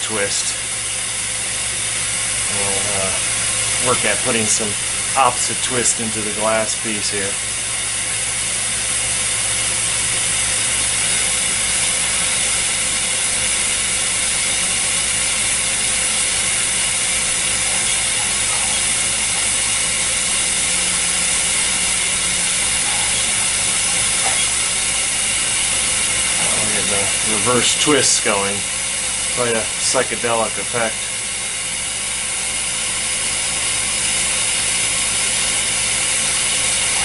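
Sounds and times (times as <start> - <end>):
hissing torch flame: 0.0 - 37.0
lathe running: 0.0 - 37.0.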